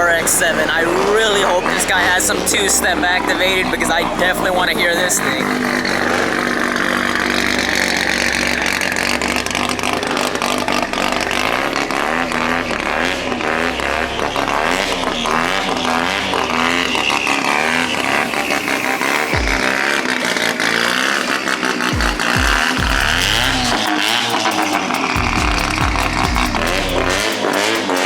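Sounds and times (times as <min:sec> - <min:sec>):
rotary engine revving: 0:00.0 - 0:28.0
sharp engine crackles: 0:00.0 - 0:28.0.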